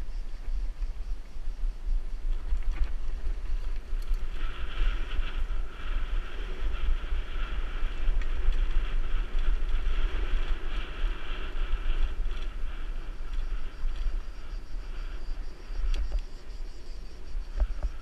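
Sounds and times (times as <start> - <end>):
steady hiss: 0.0 - 18.0
wind buffeting microphone: 0.0 - 18.0.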